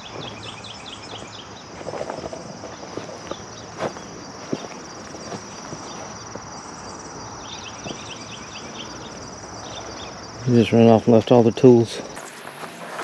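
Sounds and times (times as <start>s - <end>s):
footsteps on dry grass: 0.0s - 10.3s, 12.2s - 13.0s
insects chirping: 0.0s - 13.0s.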